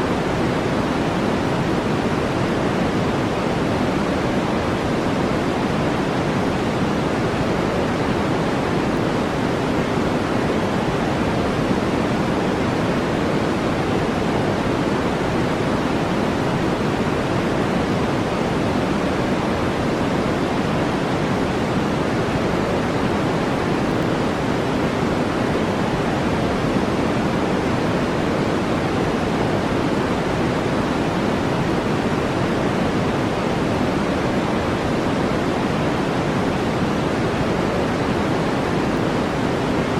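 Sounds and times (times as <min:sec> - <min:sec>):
deep steady brown noise: 0:00.0 - 0:39.9.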